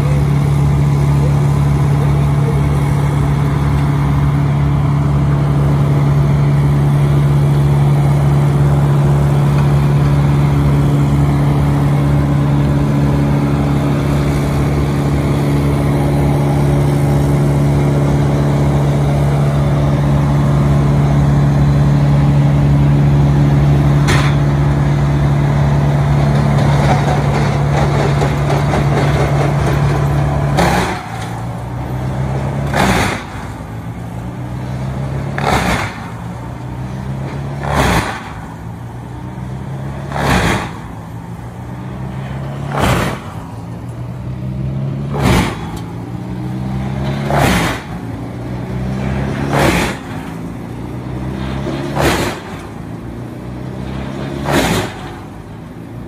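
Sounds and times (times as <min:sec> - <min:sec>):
wood chipper engine running: 0:00.0 - 0:56.0.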